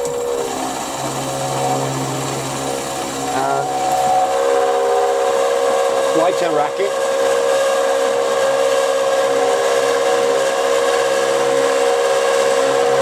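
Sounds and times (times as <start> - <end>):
milling machine cutting steel screech: 0.0 - 13.0.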